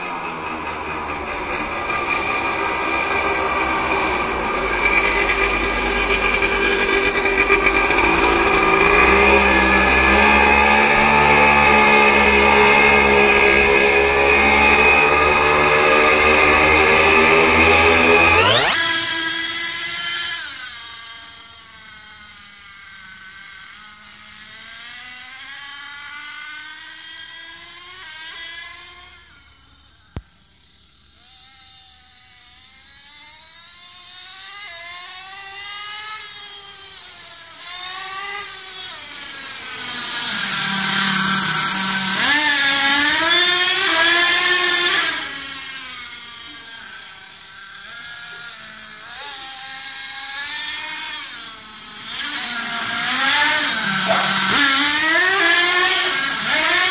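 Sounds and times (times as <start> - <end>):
toy truck motor whining: 0.0 - 56.9.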